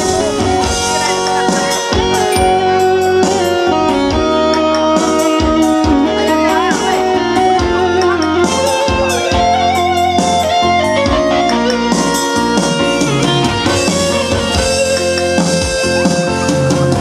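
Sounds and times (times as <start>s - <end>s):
drum and bass accompaniment: 0.0s - 17.0s
electronic keyboard melody: 0.0s - 17.0s.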